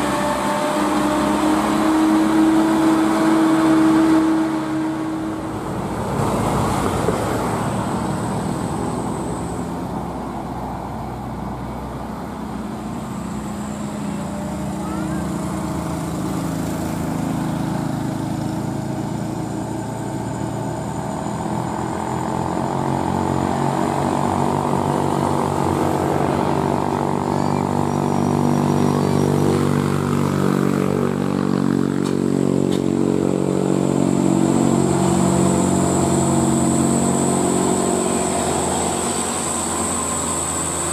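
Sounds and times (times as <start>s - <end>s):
diesel truck engine droning: 0.0s - 40.9s.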